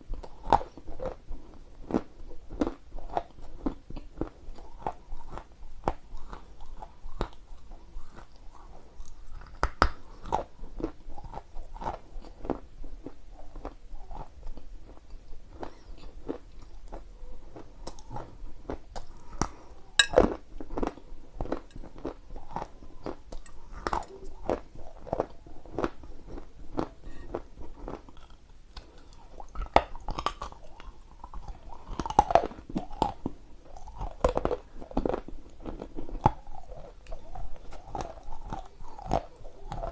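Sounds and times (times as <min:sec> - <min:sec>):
crunching and chewing: 0:00.1 - 0:39.9.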